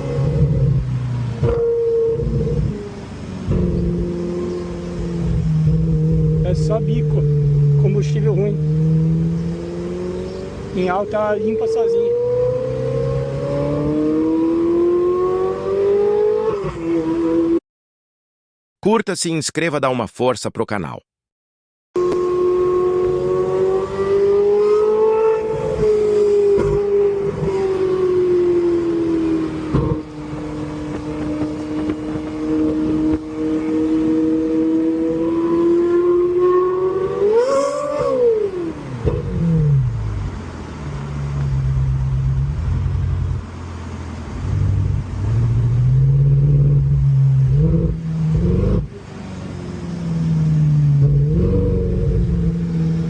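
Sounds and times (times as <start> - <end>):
car engine revving with misfire: 0.0 - 17.6, 22.0 - 53.0.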